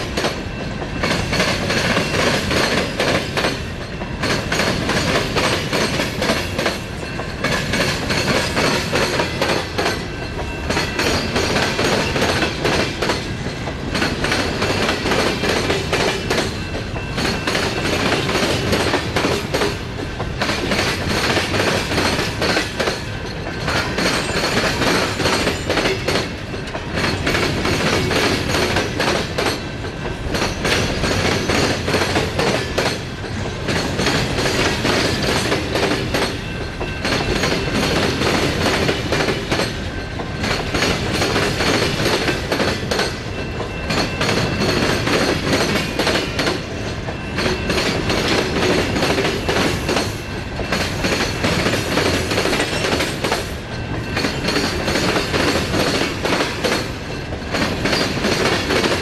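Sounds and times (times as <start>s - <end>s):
high wheel squeal on rail: 0.0s - 59.0s.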